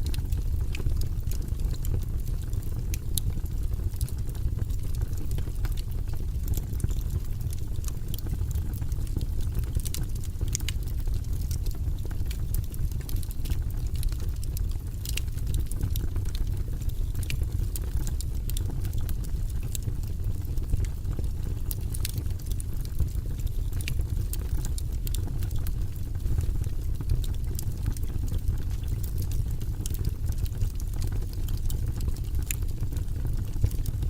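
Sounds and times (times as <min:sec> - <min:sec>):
campfire wood crackling: 0:00.0 - 0:34.0
low fire rumble: 0:00.0 - 0:34.0.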